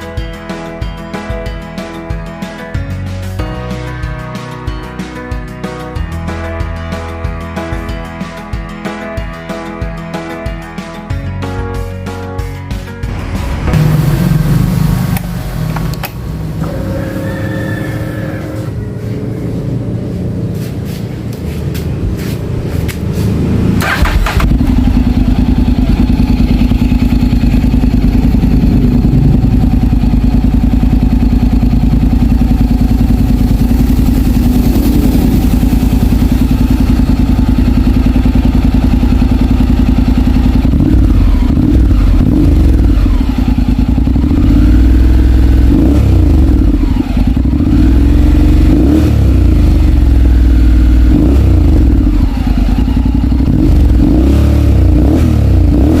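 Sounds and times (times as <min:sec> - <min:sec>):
motorcycle engine idling and revving: 0:00.0 - 0:11.9, 0:12.7 - 0:56.0.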